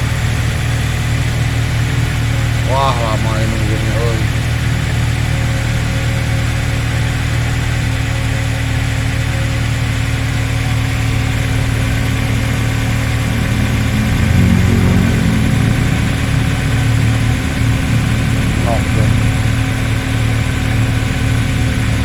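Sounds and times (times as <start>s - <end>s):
car engine idling: 0.0s - 22.0s
engine rattling: 0.0s - 22.0s.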